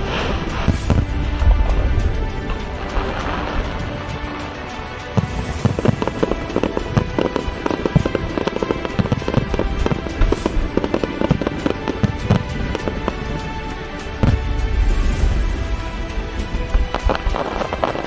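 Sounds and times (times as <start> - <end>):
fireworks bangs and crackles: 0.0 - 18.0
music: 0.0 - 18.0.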